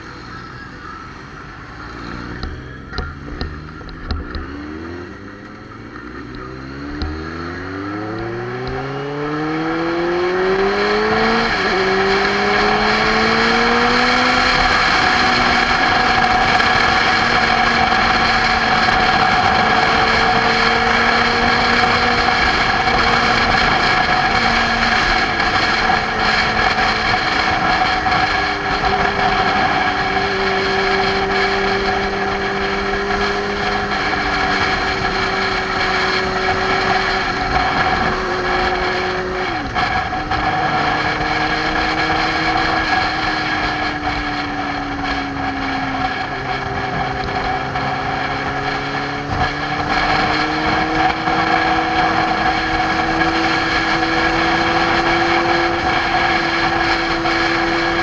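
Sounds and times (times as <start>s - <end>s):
motorcycle engine running: 0.0s - 58.0s
road noise: 0.0s - 58.0s
wind noise: 6.0s - 58.0s.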